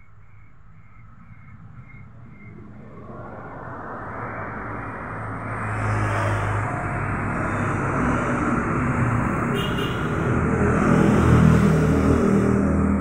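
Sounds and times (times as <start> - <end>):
road traffic rumble: 0.0 - 13.0
vehicle engine: 2.5 - 13.0.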